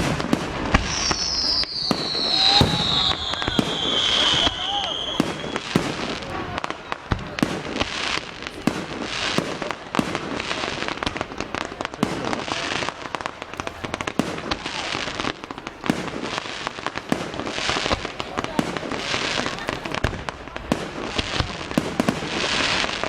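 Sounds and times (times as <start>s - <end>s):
fireworks banging: 0.0s - 23.0s
fireworks crackling hiss: 0.0s - 23.0s.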